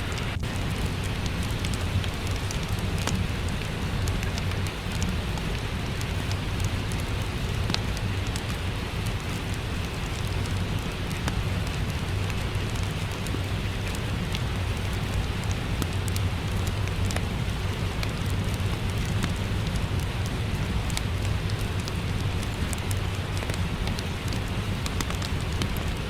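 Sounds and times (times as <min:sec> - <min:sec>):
fireplace crackling: 0:00.0 - 0:26.0
steady rain: 0:00.0 - 0:26.0.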